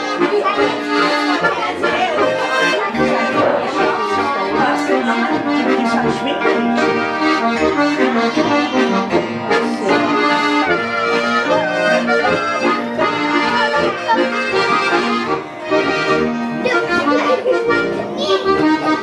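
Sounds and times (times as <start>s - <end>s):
button accordion folk tune: 0.0s - 19.0s
hammered dulcimer: 0.0s - 19.0s.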